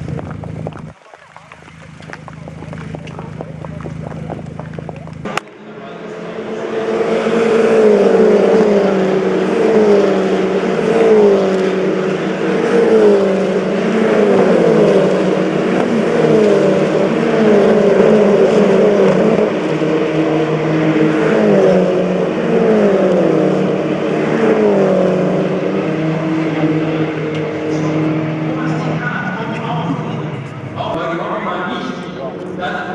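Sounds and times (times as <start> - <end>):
race cars passing at speed: 0.0 - 32.9.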